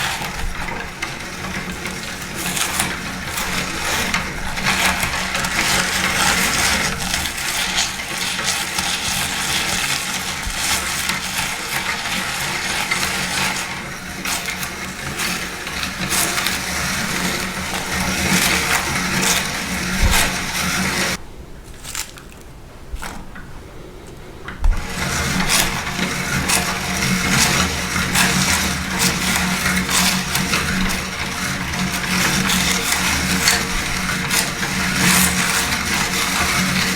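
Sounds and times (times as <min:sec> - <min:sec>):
meat grinder motor hum: 0:00.0 - 0:21.2, 0:24.6 - 0:36.9
dry food crunching: 0:00.0 - 0:36.9.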